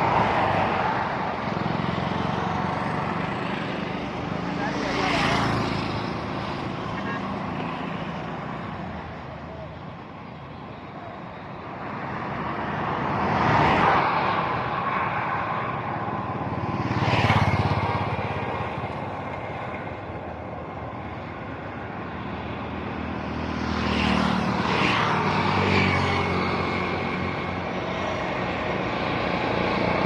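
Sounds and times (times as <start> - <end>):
traffic hum: 0.0 - 30.0
vehicles passing: 0.0 - 30.0.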